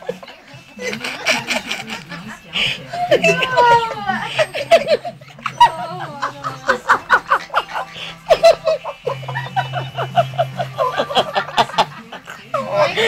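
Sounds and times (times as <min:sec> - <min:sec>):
people laughing and giggling: 0:00.0 - 0:13.0.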